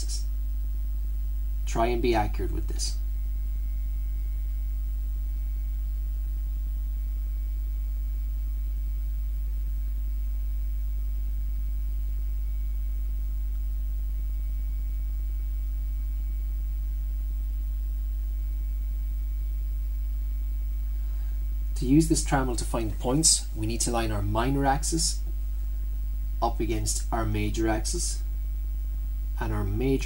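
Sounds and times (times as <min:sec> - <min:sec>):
faint high whine: 0:00.0 - 0:30.0
low electrical hum: 0:00.0 - 0:30.0.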